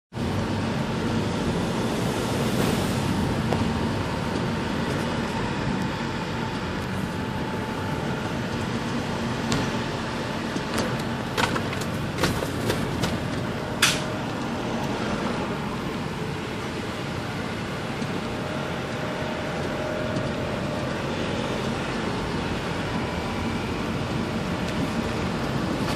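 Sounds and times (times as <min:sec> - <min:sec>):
vehicle engine hum with road noise: 0:00.1 - 0:25.9.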